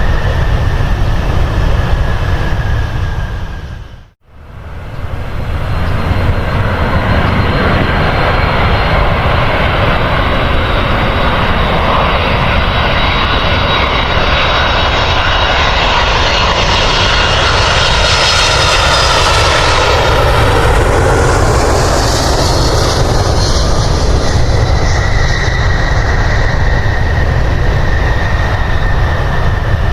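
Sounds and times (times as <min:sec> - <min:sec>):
airliner engines passing: 0:00.0 - 0:29.9.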